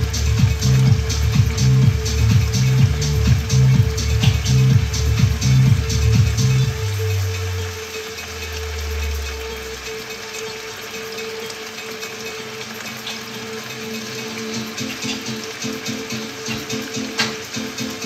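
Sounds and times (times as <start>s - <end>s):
low bass background music: 0.0s - 18.0s.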